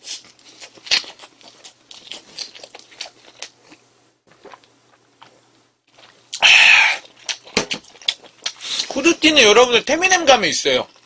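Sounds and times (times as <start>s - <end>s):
biting and chewing burger: 0.0s - 9.0s.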